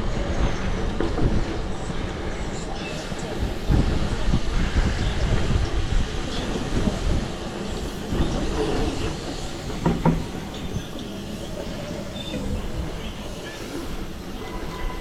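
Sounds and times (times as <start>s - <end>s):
wind and road noise: 0.0s - 13.1s.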